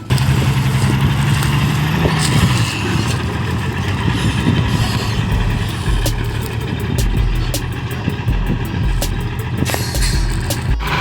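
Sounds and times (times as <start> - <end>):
deep rumble: 0.0 - 11.0
small car engine running: 0.0 - 11.0.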